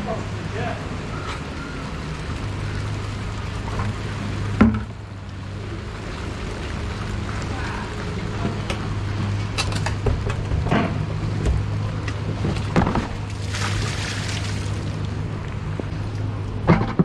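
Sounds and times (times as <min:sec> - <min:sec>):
steady low drone: 0:00.0 - 0:17.0.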